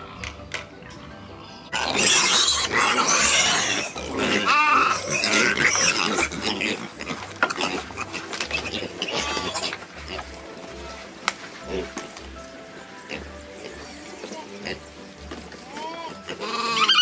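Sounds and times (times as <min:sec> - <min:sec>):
pigs squealing: 0:01.0 - 0:10.5, 0:11.6 - 0:17.0.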